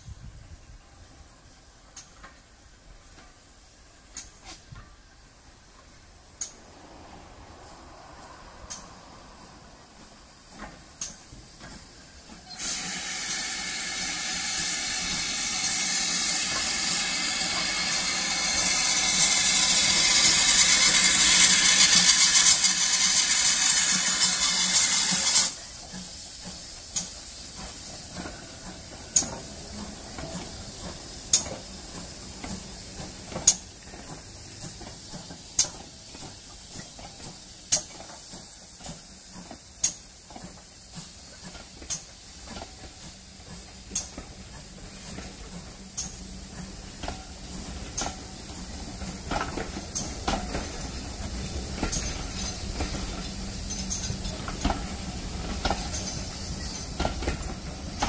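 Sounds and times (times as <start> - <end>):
steam locomotive hiss: 0.0 - 58.0
train rolling with sharp clicks: 1.8 - 58.0.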